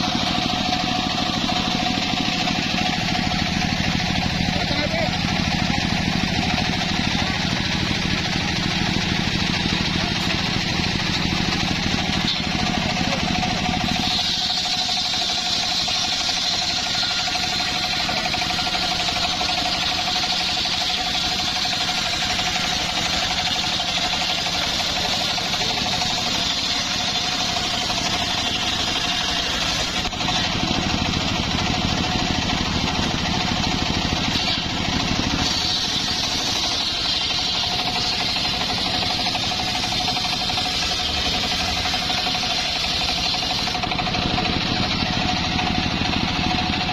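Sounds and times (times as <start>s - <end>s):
circular saw cutting log: 0.0s - 46.9s
sawmill drive running: 0.0s - 46.9s.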